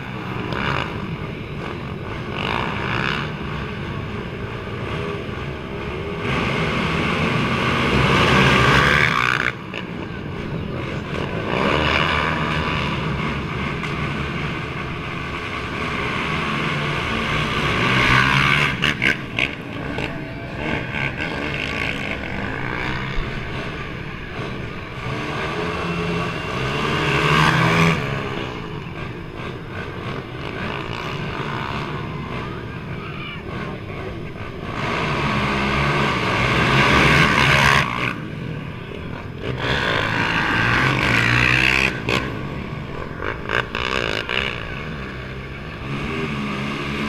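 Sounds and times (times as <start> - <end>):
atv engines revving past: 0.0 - 47.0.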